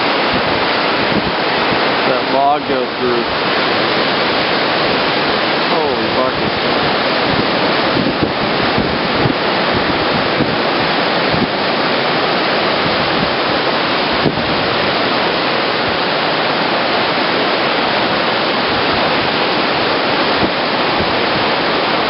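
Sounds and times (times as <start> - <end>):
river rushing in flood: 0.0 - 22.0.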